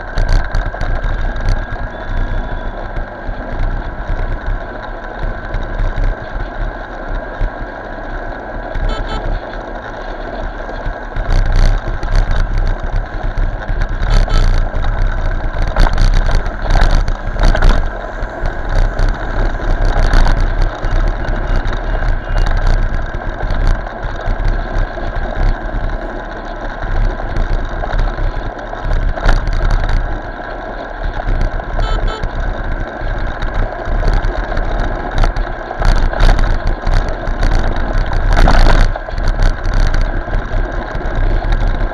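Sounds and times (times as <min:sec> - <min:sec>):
motorcycle engine rumble: 0:00.0 - 0:41.9
road traffic: 0:00.0 - 0:41.9.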